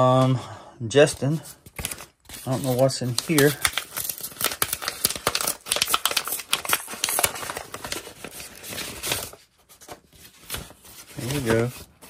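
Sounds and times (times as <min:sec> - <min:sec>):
paper envelope tearing: 0:01.4 - 0:12.0.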